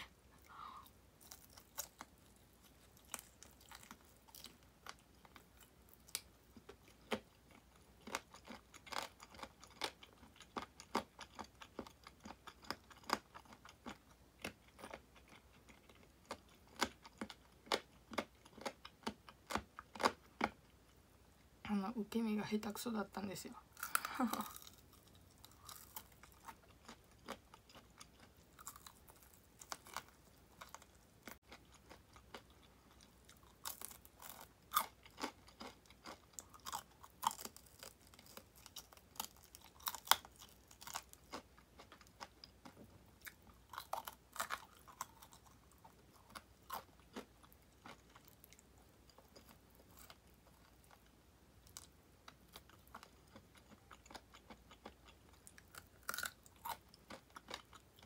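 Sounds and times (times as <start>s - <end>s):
soft chewing: 0.0s - 21.5s, 23.8s - 58.0s
crunchy fried food bites: 1.1s - 20.7s, 23.7s - 58.0s.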